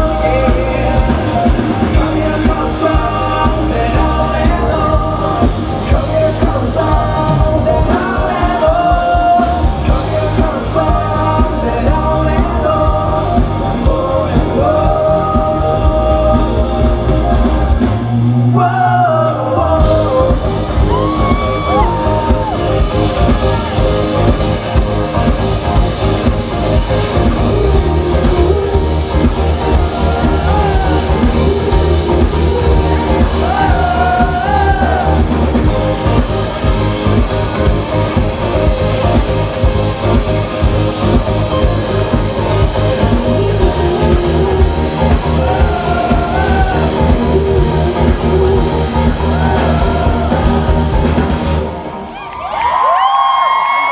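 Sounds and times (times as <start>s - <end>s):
lead vocal singing: 0.0s - 52.2s
live rock band playing: 0.0s - 53.9s.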